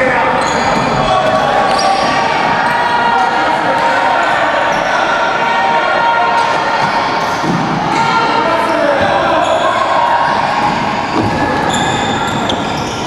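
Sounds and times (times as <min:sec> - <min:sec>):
voices calling out: 0:00.0 - 0:13.0.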